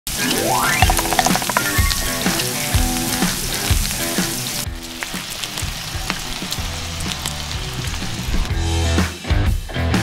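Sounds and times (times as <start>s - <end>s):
pancake sizzling in oil: 0.1s - 8.7s.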